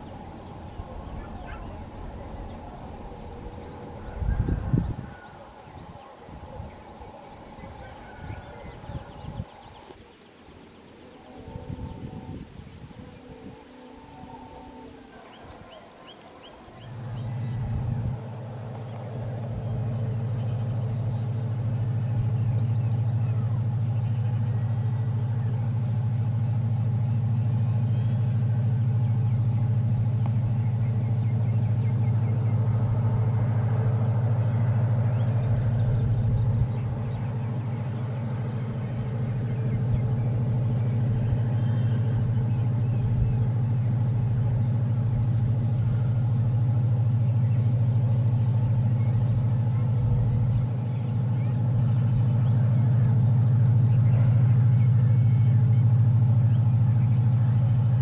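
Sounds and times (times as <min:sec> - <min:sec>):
diesel locomotive engine droning: 0:00.0 - 0:58.0.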